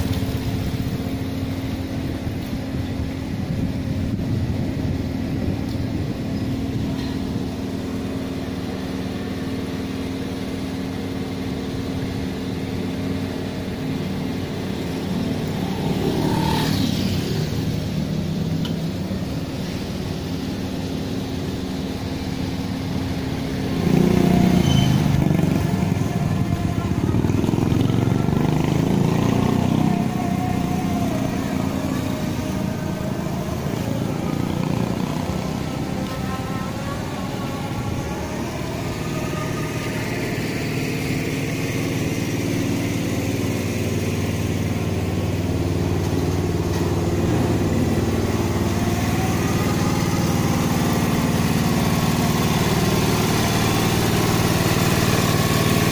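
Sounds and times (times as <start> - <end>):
steady engine hum: 0.0 - 55.9
vehicles passing: 0.0 - 55.9.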